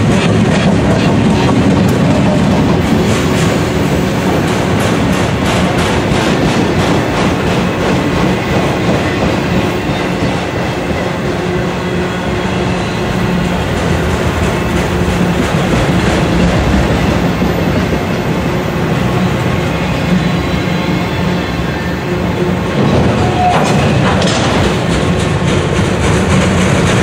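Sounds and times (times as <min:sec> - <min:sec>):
freight train wheels rolling on rails: 0:00.0 - 0:27.0.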